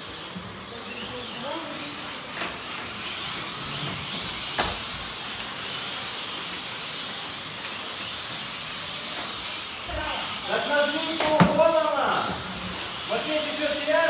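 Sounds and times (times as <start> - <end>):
slot car motors hissing: 0.0 - 14.0.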